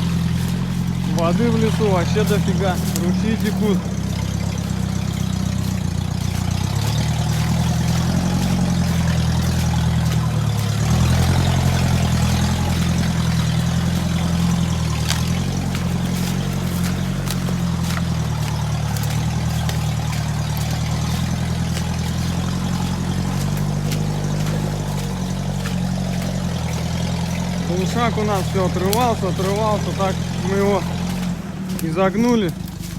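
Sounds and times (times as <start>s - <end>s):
loud unmuffled car engine: 0.0s - 32.9s.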